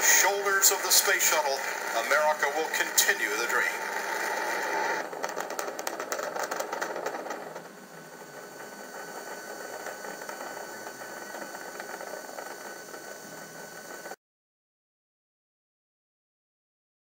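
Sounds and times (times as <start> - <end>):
rocket engine exhaust crackling: 0.0 - 14.2.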